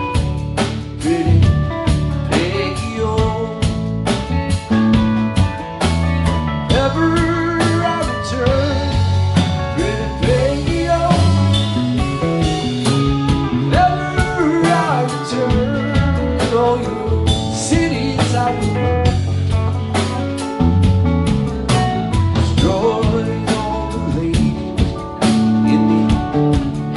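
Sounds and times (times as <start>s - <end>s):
lead guitar bending notes: 0.0s - 26.9s
live rock band playing: 0.0s - 26.9s.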